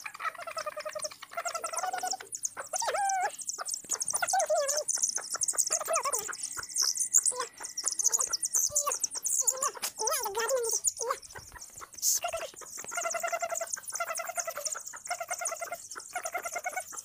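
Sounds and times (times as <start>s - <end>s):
chicks peeping: 0.0s - 17.0s
hen clucking: 0.0s - 17.0s.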